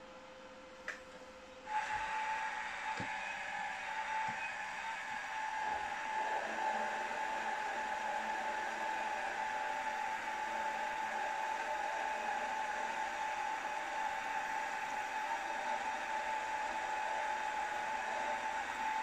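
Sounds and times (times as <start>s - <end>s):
drilling machine whining: 1.7s - 19.0s.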